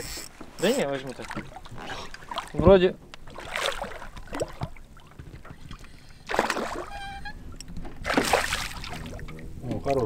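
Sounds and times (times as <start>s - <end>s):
water splashing: 0.7s - 7.2s, 7.9s - 10.0s.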